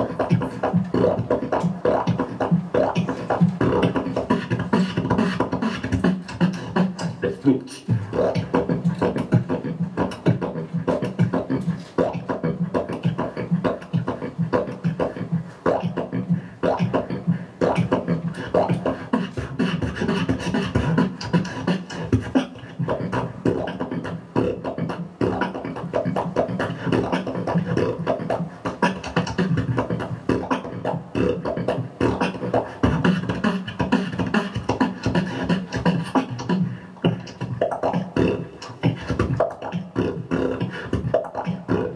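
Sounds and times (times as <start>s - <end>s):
beatboxing into a microphone: 0.0s - 41.9s
steady low hum: 0.0s - 41.9s.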